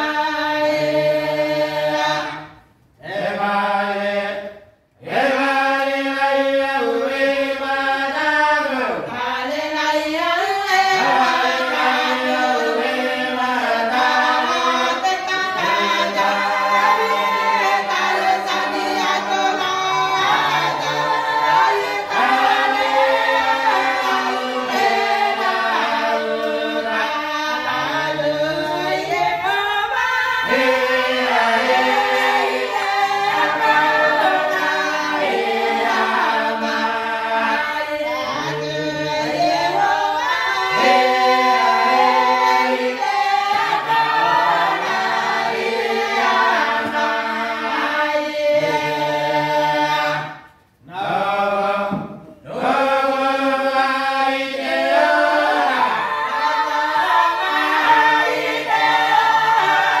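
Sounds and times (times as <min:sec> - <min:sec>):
voices singing in harmony: 0:00.0 - 1:00.0.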